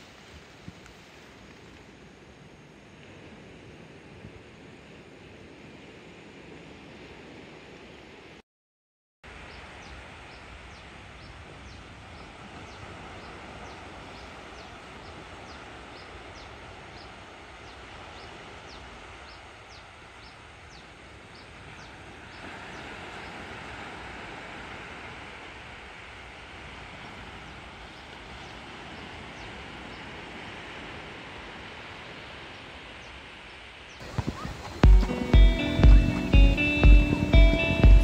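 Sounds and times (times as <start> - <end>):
surf breaking on a beach: 0.0 - 8.4, 9.3 - 38.0.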